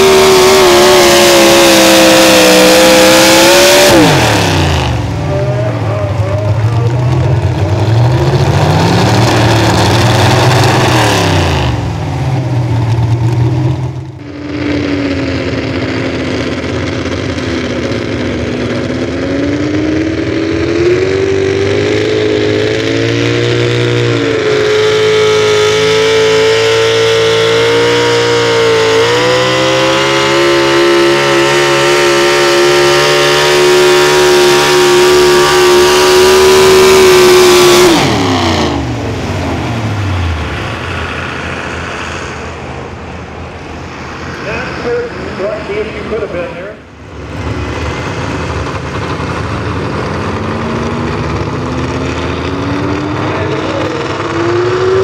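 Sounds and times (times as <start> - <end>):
truck engine at high revs: 0.0 - 55.0
truck engine winding down: 0.0 - 55.0.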